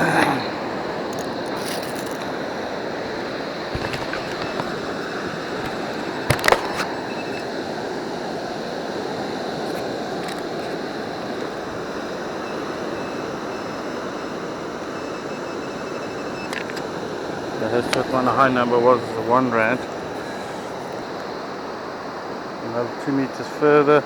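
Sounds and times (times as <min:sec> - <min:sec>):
surf and water washing: 0:00.0 - 0:24.0.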